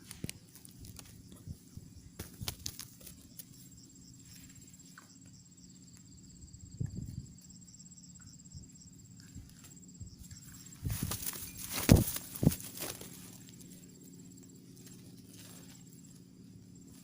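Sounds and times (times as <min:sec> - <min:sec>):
insects trilling: 0:00.0 - 0:17.0
low hum: 0:00.0 - 0:17.0.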